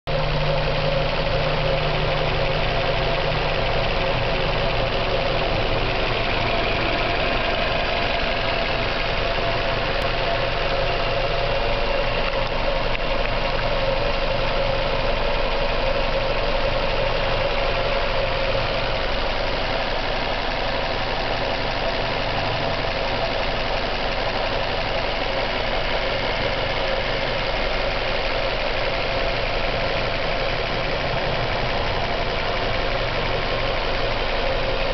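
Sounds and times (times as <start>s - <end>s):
car engine idling with knock: 0.1s - 34.9s.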